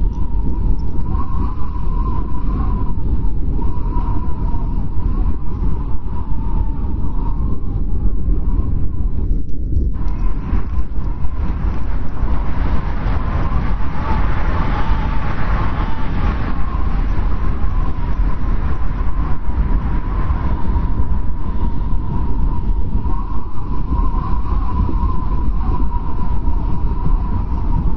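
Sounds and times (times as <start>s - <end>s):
strong wind blowing: 0.0s - 27.9s
thin wavering wind whistle: 0.0s - 27.9s.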